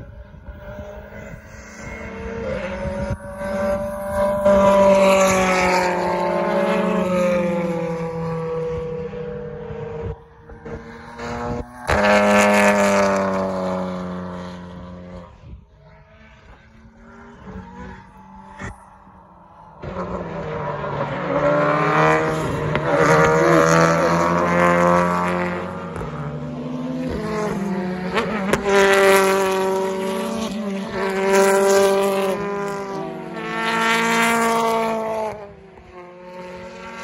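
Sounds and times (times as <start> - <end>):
race car engines passing at high revs: 0.0 - 37.0.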